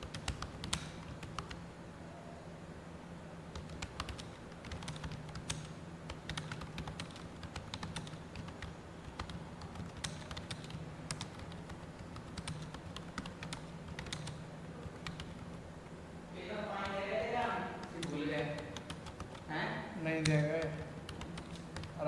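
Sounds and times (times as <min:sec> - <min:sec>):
keyboard typing clicks: 0:00.0 - 0:01.6, 0:03.5 - 0:15.6, 0:16.8 - 0:19.5, 0:20.1 - 0:22.0
steady low hum: 0:00.0 - 0:22.0.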